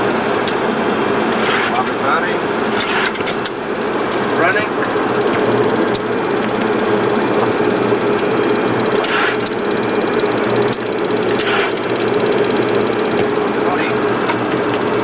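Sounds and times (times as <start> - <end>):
cockpit hum: 0.0 - 15.0.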